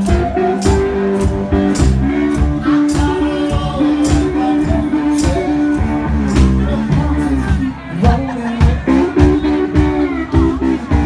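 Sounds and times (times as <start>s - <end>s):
blues band playing live: 0.0s - 11.0s
drums steady beat: 0.0s - 11.0s.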